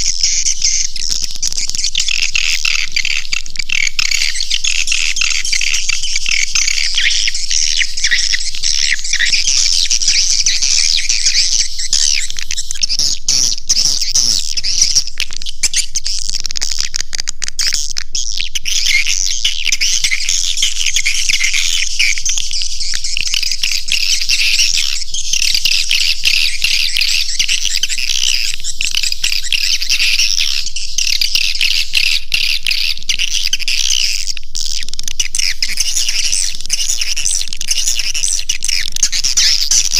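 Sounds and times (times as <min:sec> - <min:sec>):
swiftlet chirps and twitters: 0:00.0 - 0:16.0, 0:18.2 - 0:34.2.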